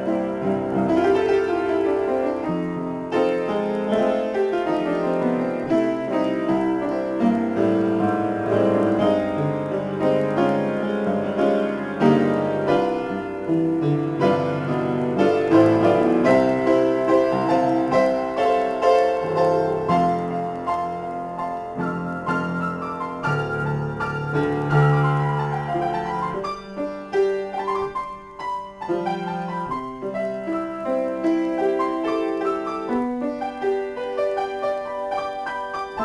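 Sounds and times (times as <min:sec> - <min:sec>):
piano improvisation: 0:00.0 - 0:36.0.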